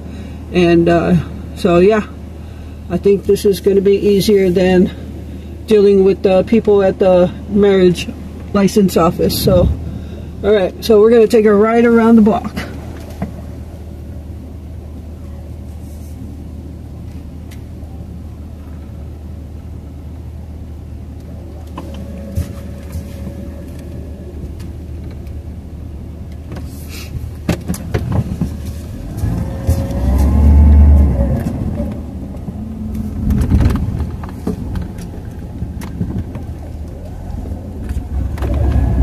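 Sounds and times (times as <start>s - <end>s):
car engine idling: 0.0s - 39.0s
engine rumble with whine: 0.0s - 39.0s.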